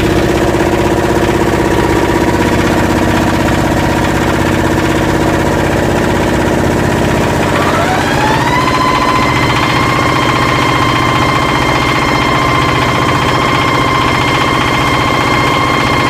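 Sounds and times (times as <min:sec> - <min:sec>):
marine diesel engine running: 0:00.0 - 0:16.0.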